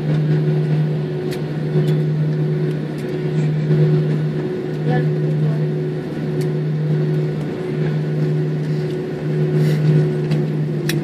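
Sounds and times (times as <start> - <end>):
noisy rumble: 0.0 - 11.0
steady mechanical hum: 0.0 - 11.0.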